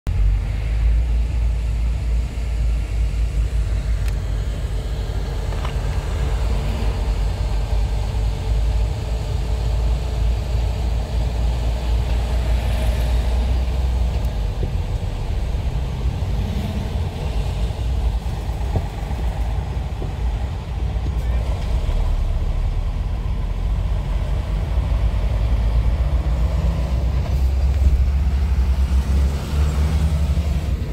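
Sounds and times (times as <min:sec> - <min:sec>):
car interior road rumble: 0:00.1 - 0:30.9.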